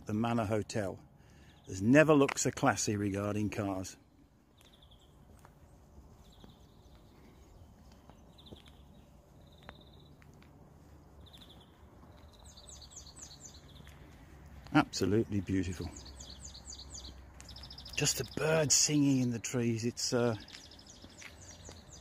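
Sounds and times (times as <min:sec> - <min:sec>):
birds singing: 0:00.0 - 0:22.0.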